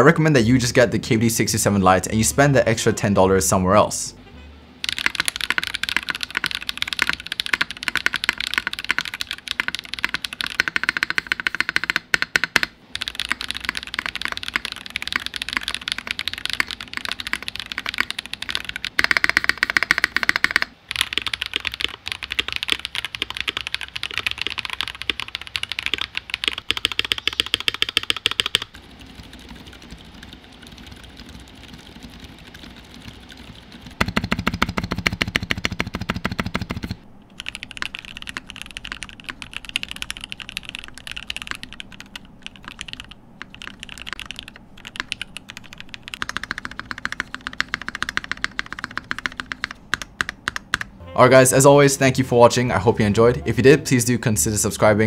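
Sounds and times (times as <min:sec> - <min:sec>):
rapid keyboard typing: 0:04.8 - 0:51.0.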